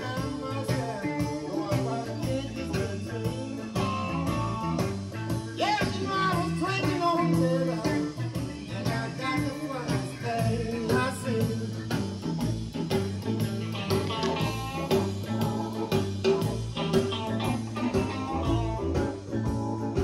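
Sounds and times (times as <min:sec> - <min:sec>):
blues-rock song over loudspeakers: 0:00.0 - 0:20.0.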